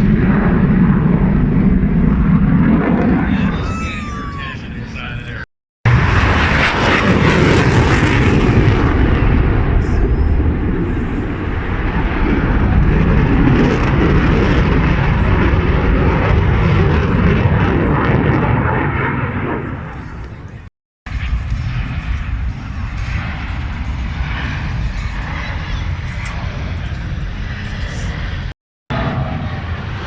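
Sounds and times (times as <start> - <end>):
loud aircraft engine: 0.0 - 30.0.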